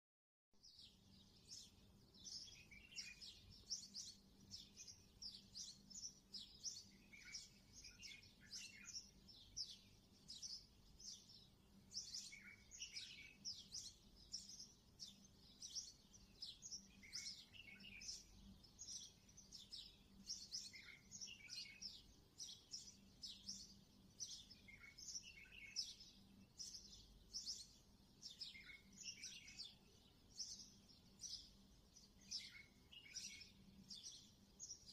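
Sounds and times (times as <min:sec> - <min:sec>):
small birds chirping: 0:00.6 - 0:34.9.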